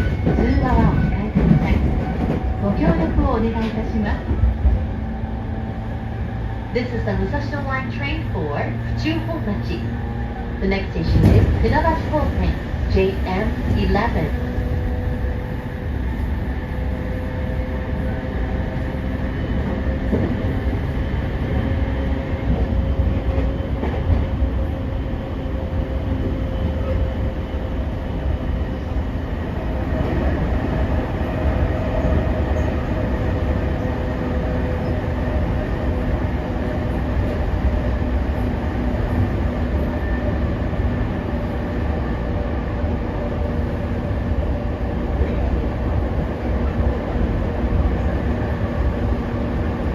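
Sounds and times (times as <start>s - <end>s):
electric train humming tones: 0.0s - 49.9s
train wheels rumbling on rail: 0.0s - 49.9s.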